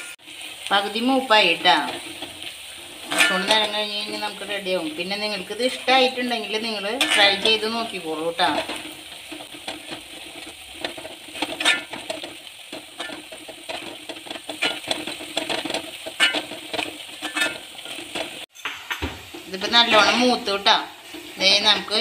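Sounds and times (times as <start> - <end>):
spoon stirring and scraping pan: 0.0 - 22.0
vegetables sizzling in oil: 0.0 - 22.0.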